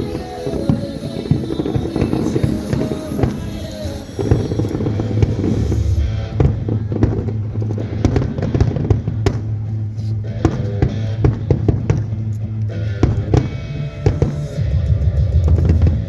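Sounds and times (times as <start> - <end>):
fireworks bangs: 0.0 - 12.3, 13.0 - 16.0
music with low drone: 0.0 - 16.0.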